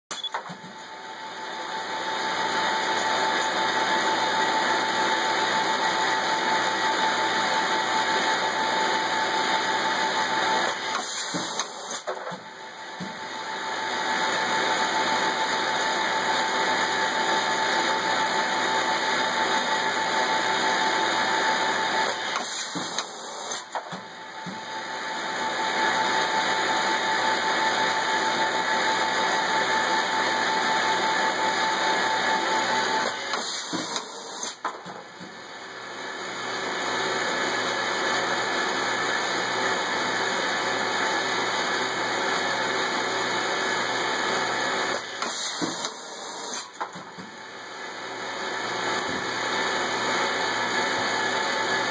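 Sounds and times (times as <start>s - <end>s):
machine noise with high whine: 0.1s - 51.9s.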